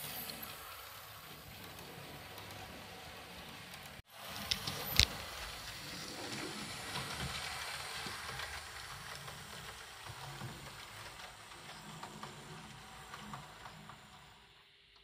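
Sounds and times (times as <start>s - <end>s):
model train wheels rattling on rails: 0.0s - 15.0s.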